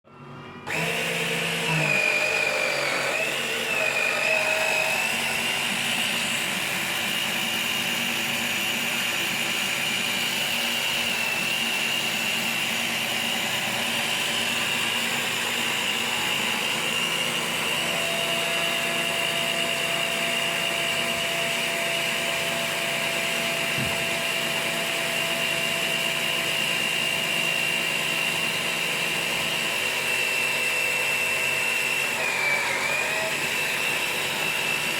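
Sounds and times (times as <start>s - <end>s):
motor running with high whine: 0.1s - 34.9s.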